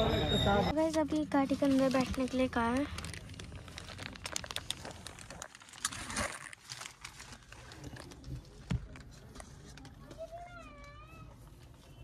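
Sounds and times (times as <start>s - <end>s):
plastic sheeting crinkling: 0.9s - 11.0s.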